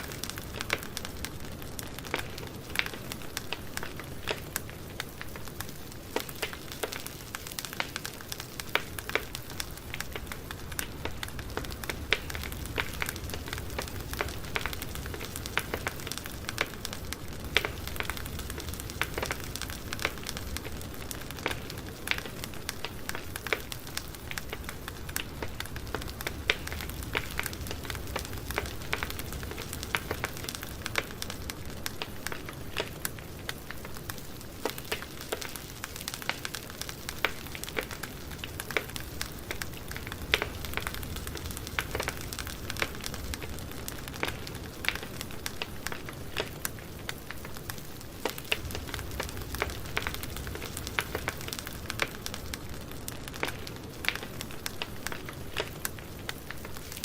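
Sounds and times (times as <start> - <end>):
campfire burning with hiss: 0.0 - 57.0
wood crackling and popping: 0.0 - 57.0.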